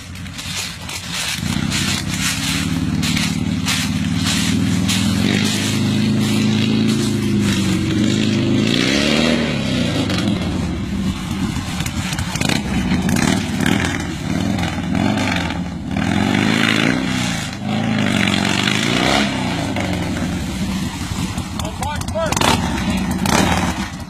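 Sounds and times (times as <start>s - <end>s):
v-twin engine revving: 0.0s - 24.0s.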